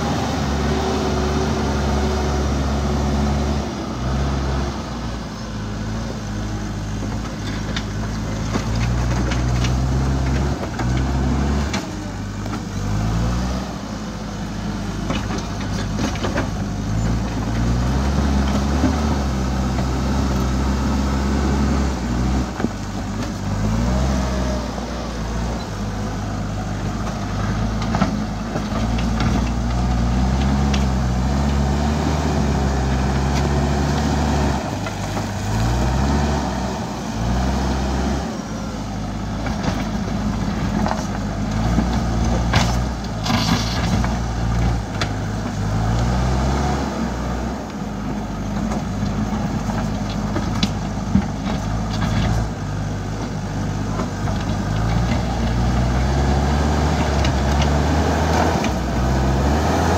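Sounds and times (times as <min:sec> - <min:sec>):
diesel engine working: 0:00.0 - 0:59.9.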